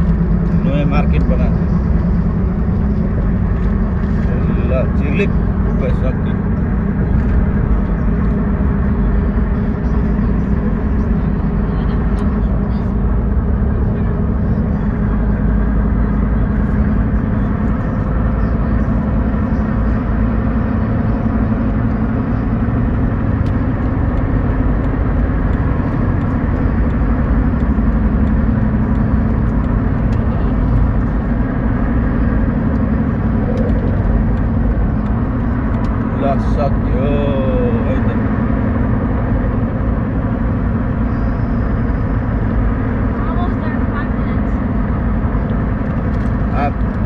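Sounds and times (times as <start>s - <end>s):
low drone: 0.0s - 47.0s
tyre and road noise: 0.0s - 47.0s.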